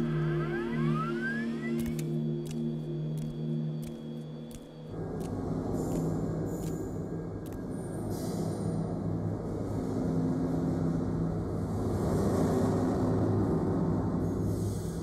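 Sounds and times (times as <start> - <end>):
low ambient drone: 0.0 - 15.0.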